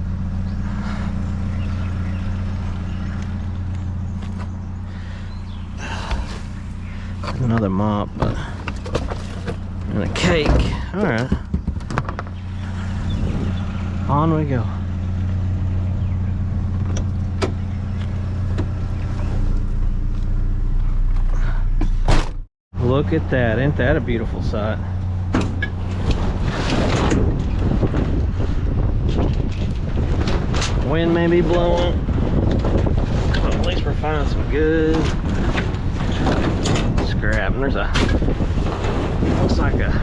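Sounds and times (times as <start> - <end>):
vehicle engine idling: 0.0 - 22.2, 22.8 - 26.6, 27.2 - 40.0.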